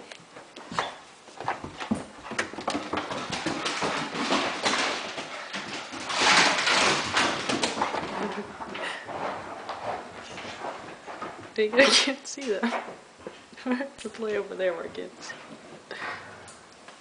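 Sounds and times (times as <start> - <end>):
dogs scuffling and paws scrabbling: 0.1 - 15.9.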